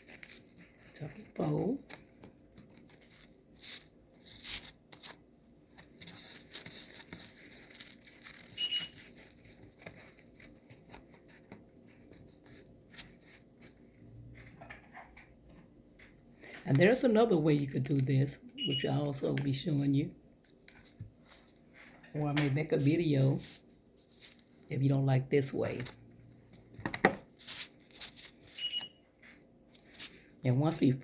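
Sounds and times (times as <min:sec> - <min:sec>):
craft material rustling and folding: 0:00.0 - 0:18.2, 0:19.2 - 0:30.9.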